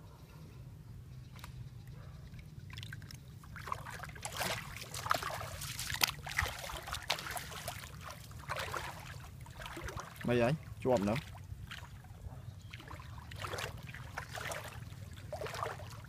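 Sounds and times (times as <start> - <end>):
muddy water splashing: 2.7 - 16.0.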